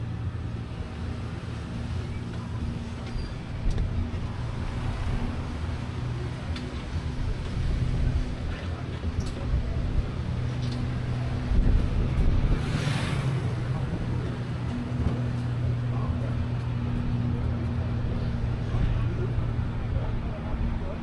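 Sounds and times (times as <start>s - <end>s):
road rumble: 0.0s - 21.0s.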